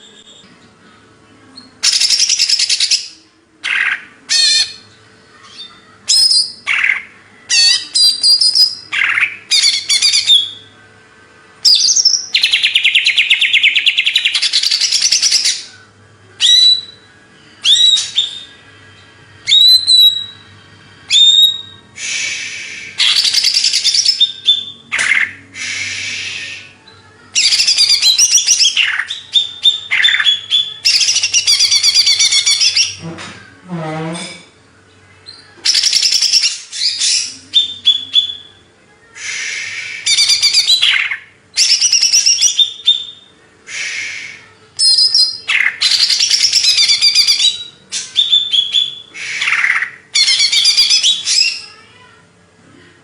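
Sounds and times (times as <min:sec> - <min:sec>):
bird chattering song: 0:01.6 - 0:10.7, 0:11.6 - 0:18.6, 0:21.1 - 0:33.0, 0:35.2 - 0:38.6, 0:39.2 - 0:51.8.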